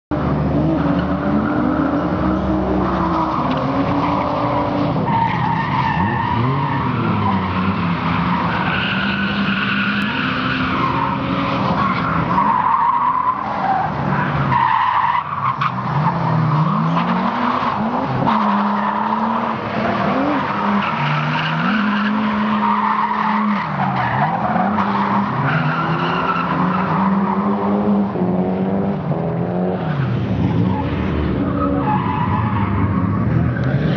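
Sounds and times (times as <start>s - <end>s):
car engines revving: 0.1s - 33.9s.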